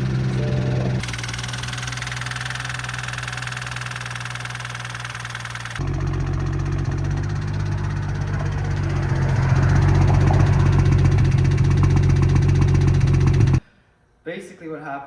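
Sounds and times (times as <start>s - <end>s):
engine ticking: 0.0s - 13.6s
low steady engine drone: 0.0s - 13.6s.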